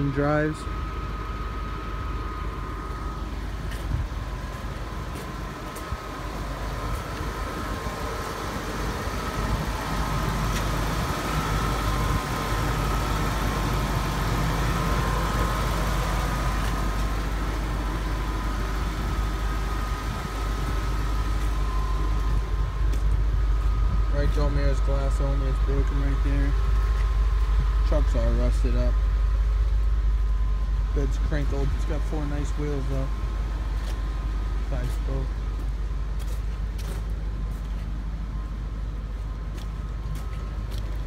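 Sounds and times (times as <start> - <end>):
pickup engine idling: 0.0 - 41.0.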